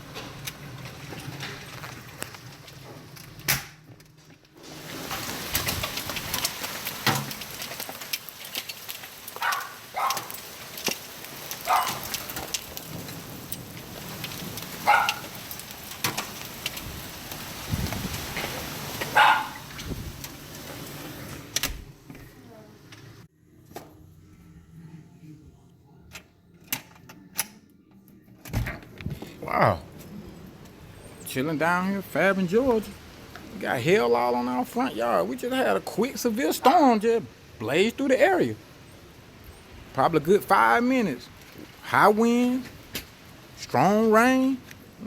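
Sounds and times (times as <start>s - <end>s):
rain and hail pattering: 0.0s - 22.9s, 28.9s - 45.0s.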